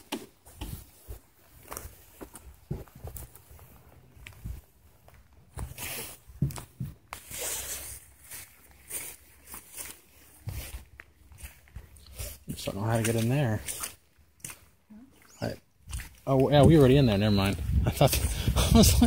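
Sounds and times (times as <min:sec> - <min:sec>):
footsteps through wet grass: 0:00.2 - 0:19.0.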